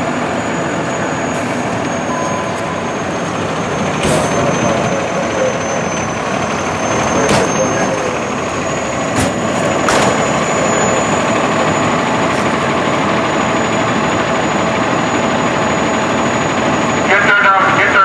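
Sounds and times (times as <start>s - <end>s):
vehicle engine idling: 0.0s - 17.3s.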